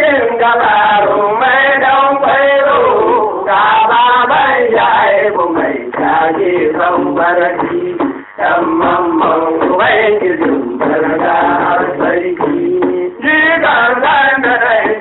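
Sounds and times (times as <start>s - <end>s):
man singing in chanting style: 0.0s - 15.0s.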